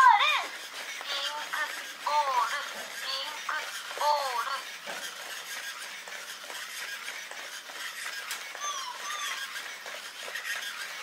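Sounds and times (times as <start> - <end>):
robot servos whirring and clicking: 0.0 - 11.0.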